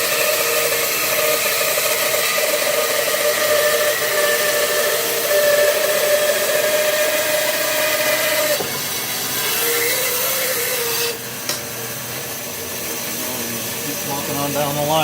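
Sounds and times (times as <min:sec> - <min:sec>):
bandsaw cutting log: 0:00.0 - 0:15.0.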